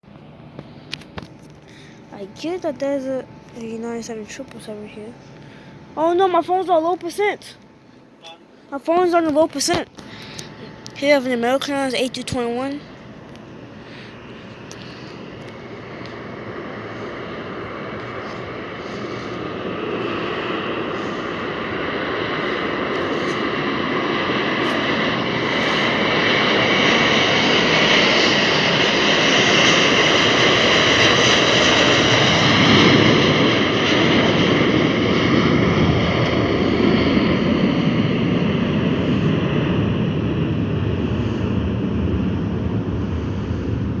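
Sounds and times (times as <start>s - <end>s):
jet engines roaring at takeoff: 0.0s - 44.0s.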